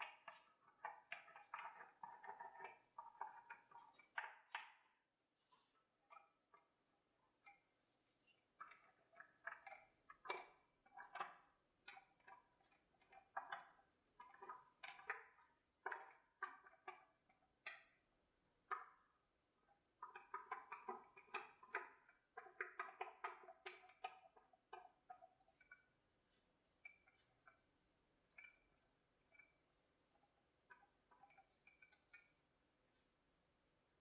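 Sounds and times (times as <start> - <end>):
paintbrush scratching and tapping: 0.0 - 18.0, 20.0 - 33.2.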